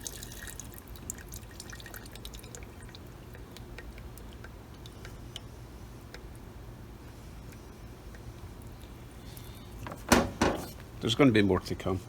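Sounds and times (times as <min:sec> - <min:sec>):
fuel dripping: 0:00.0 - 0:11.0
low steady hum: 0:00.0 - 0:12.0.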